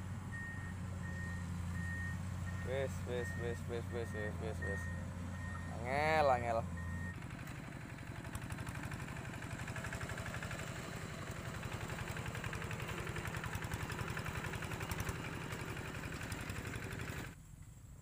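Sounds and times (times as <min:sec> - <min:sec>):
small engine running: 0:00.0 - 0:17.4.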